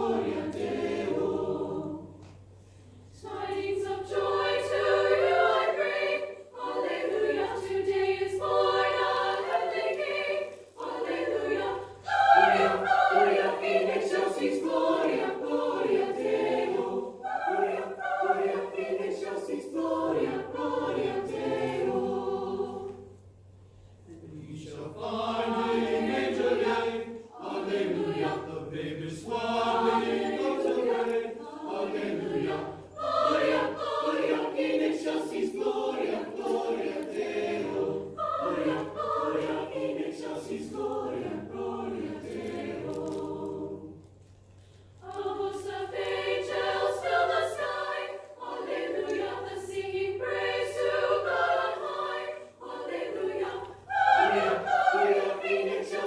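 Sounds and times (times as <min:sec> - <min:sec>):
choir singing: 0:00.0 - 0:44.3, 0:45.0 - 0:56.0.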